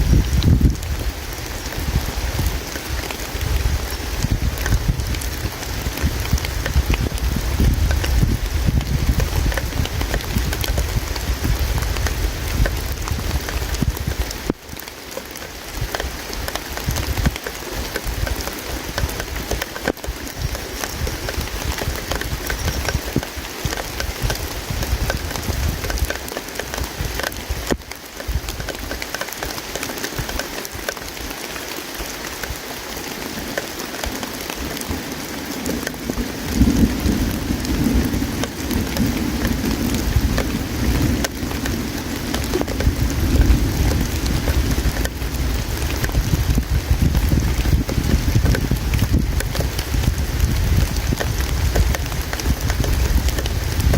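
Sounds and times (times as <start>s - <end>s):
campfire crackling and popping: 0.0s - 53.9s
deeper water wash: 0.0s - 53.9s
river water flowing: 0.0s - 53.9s.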